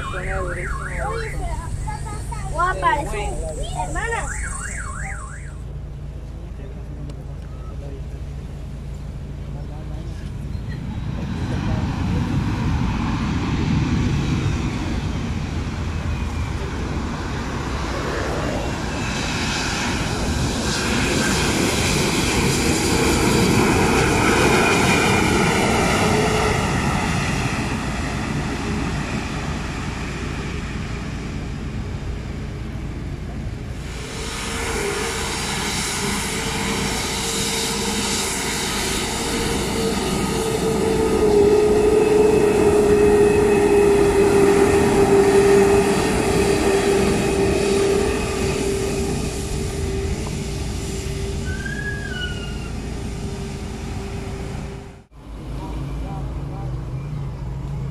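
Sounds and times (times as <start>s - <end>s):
jet engines whining: 0.0s - 6.0s, 7.6s - 55.4s.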